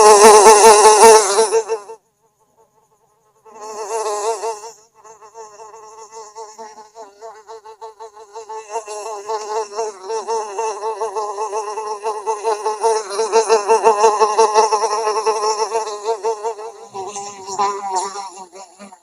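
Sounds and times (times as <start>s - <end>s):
housefly buzzing: 0.0s - 19.0s.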